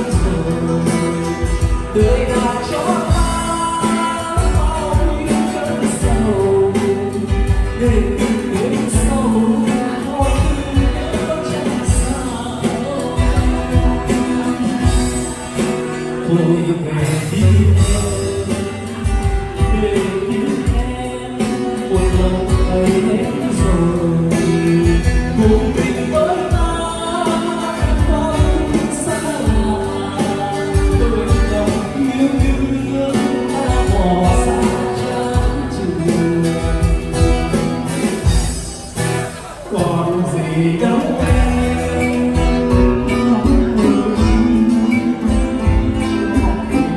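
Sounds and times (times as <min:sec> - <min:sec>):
man singing: 0:00.0 - 0:46.9
percussion beat: 0:00.0 - 0:46.9
strummed acoustic guitars: 0:00.0 - 0:46.9.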